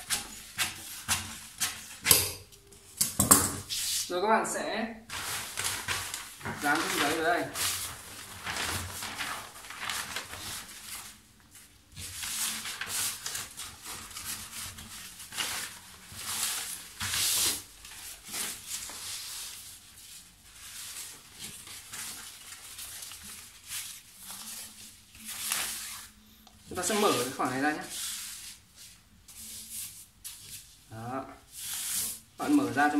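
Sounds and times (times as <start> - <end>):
paper rustling and crinkling: 0.0 - 2.1, 5.1 - 32.9.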